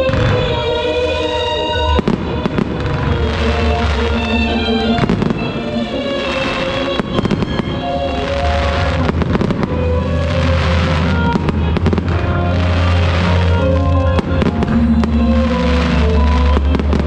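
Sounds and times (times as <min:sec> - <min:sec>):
fireworks bursting and crackling: 0:00.0 - 0:17.0
music with deep bass: 0:00.0 - 0:17.0.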